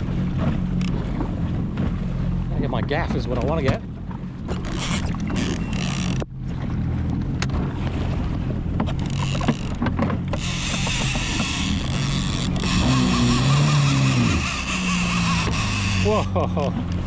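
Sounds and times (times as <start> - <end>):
jet ski engine idling: 0.0 - 17.0.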